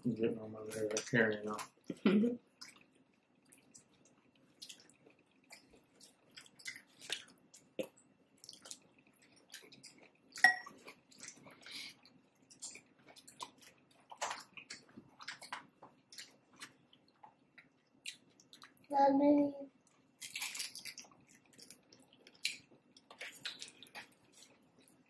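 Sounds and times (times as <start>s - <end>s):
chewing and crunching food: 0.6s - 18.9s, 19.7s - 25.0s.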